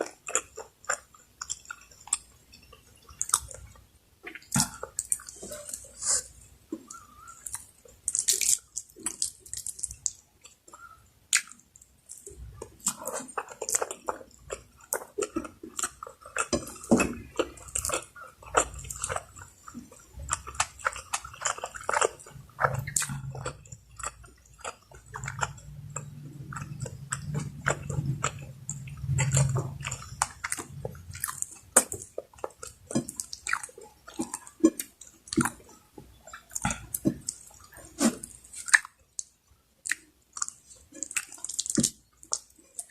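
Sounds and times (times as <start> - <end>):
close chewing with wet mouth clicks: 0.0 - 42.9.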